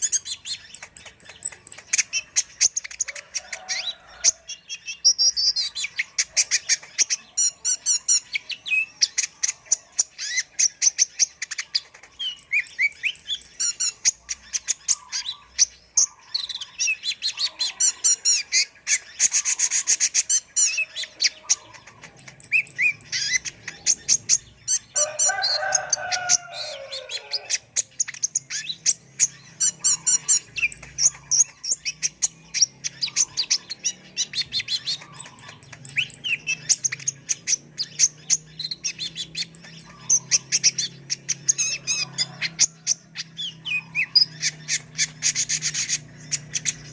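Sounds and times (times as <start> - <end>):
sunbird high twittering song: 0.0 - 46.9.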